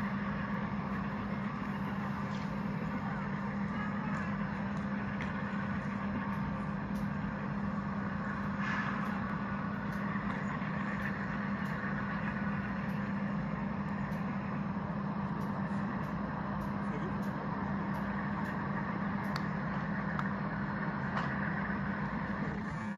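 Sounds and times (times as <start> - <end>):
diesel locomotive engine idling: 0.0 - 22.9.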